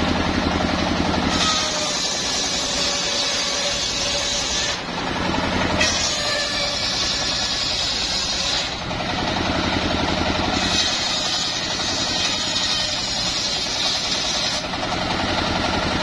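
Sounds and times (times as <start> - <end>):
saw bench engine running: 0.0 - 16.0.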